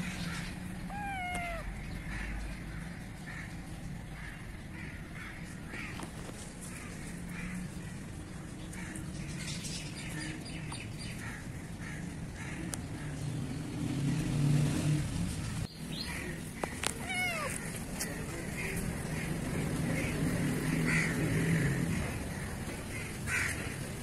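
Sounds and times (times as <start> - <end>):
birds chirping: 0.0 - 24.0
outdoor ambience: 0.0 - 24.0.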